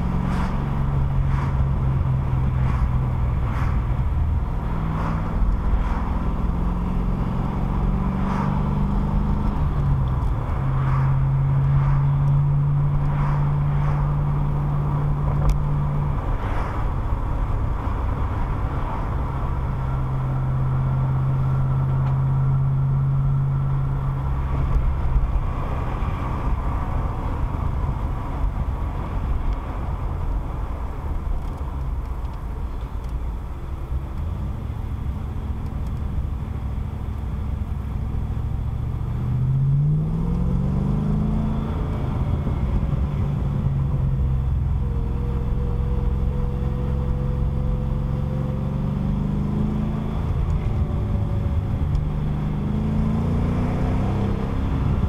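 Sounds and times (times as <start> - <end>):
car engine inside cabin: 0.0 - 55.0.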